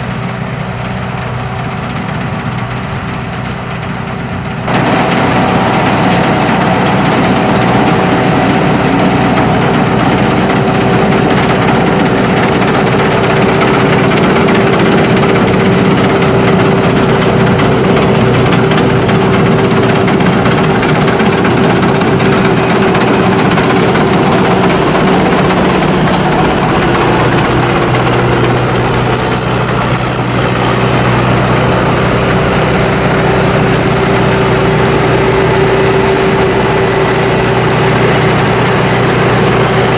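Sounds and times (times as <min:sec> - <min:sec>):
combine harvester engine running: 0:00.0 - 0:39.9
thin high whine: 0:04.7 - 0:39.9.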